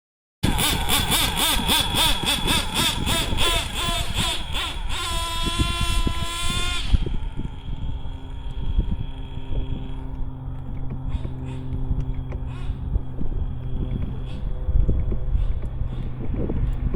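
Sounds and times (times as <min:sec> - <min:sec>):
low steady hum: 0:00.4 - 0:16.9
two-stroke engine revving: 0:00.4 - 0:16.9.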